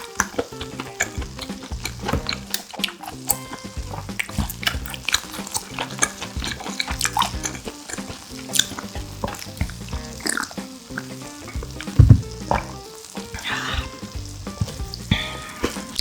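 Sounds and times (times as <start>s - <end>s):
wet crackling chewing: 0.0s - 16.0s.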